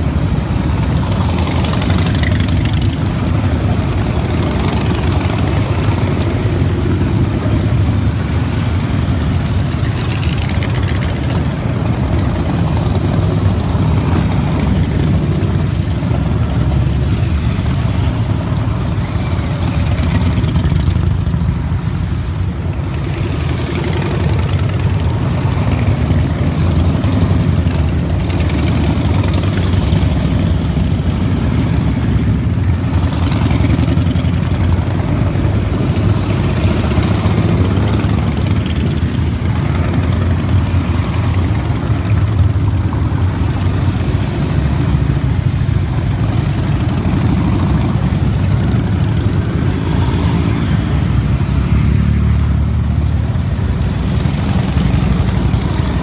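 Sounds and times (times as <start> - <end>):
motorcycles rumbling past: 0.0 - 56.0.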